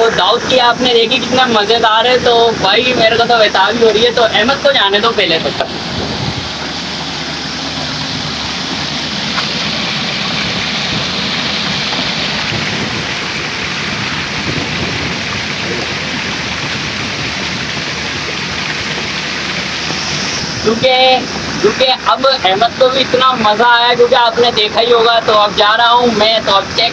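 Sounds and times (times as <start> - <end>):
water rushing down slide: 0.0 - 26.9.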